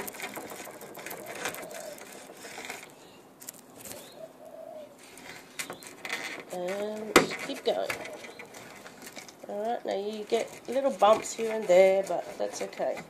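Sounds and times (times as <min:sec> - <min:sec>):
spline roller rubbing: 0:00.0 - 0:03.2, 0:05.0 - 0:13.0
dove cooing faintly: 0:00.0 - 0:13.0.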